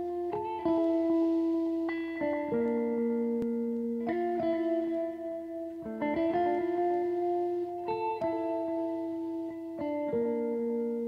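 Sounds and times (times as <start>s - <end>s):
slow plucked chords: 0.0s - 11.0s.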